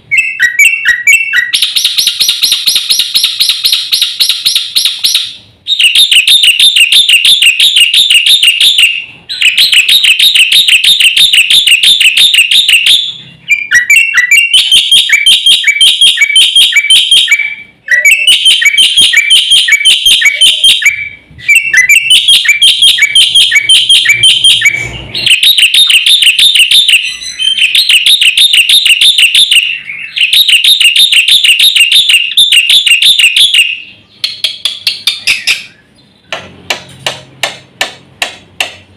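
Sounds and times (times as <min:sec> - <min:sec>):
bird singing rapid high chirps: 0:00.0 - 0:36.3.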